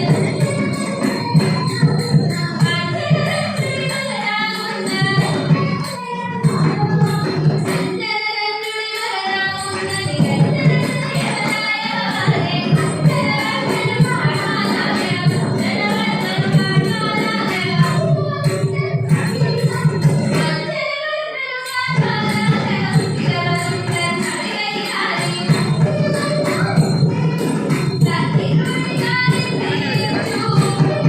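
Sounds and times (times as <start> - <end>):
jingling hand cymbals and percussion: 0.0 - 31.0.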